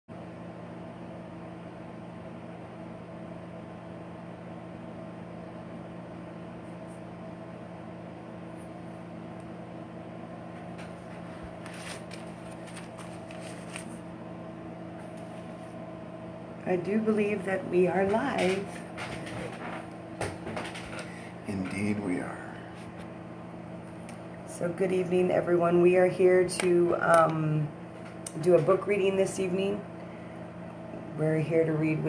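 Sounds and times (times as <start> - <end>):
fan hum: 0.1 - 32.0.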